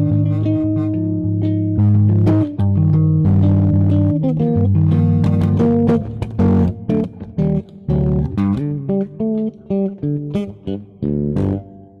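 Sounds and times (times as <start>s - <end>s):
solo bass guitar notes: 0.0s - 12.0s.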